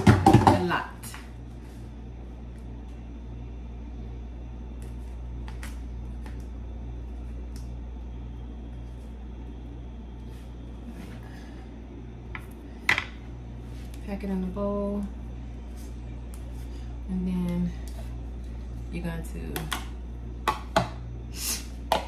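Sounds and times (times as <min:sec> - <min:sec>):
low kitchen hum: 0:00.0 - 0:22.0.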